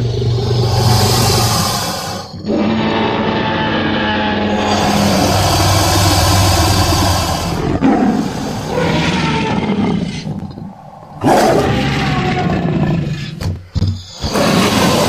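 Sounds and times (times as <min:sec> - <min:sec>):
monster roar: 0:00.0 - 0:13.5, 0:14.2 - 0:15.0.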